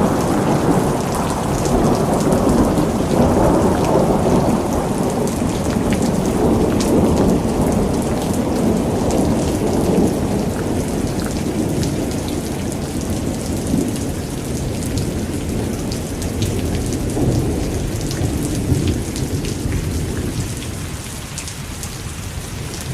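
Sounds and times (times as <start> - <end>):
rolling thunder rumble: 0.0 - 20.8
heavy rain pouring: 0.0 - 22.9.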